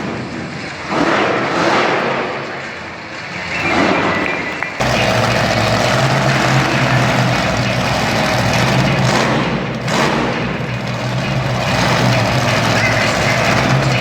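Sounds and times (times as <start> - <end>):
truck engine echoing in arena: 0.0 - 14.0.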